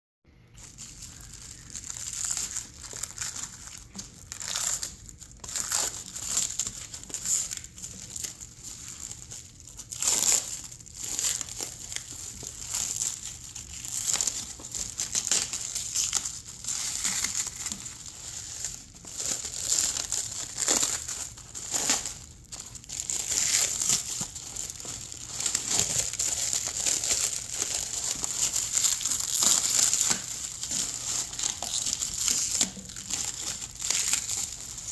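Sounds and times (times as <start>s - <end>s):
plastic shrink-wrap crinkling: 0.5s - 34.9s.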